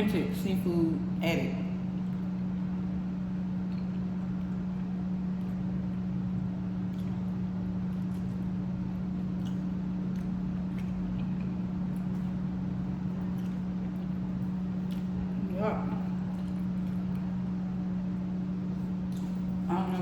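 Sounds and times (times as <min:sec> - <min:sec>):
low hum: 0:00.0 - 0:20.0
eating clicks and smacks: 0:02.0 - 0:02.5, 0:03.6 - 0:19.7.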